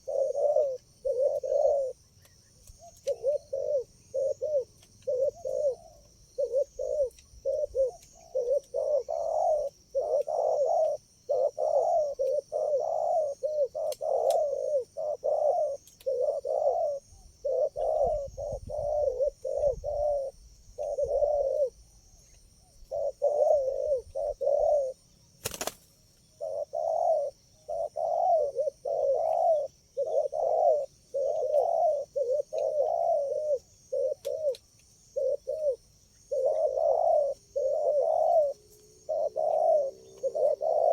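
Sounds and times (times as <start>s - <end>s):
doves cooing: 0.0s - 40.9s
high insect drone: 0.0s - 40.9s.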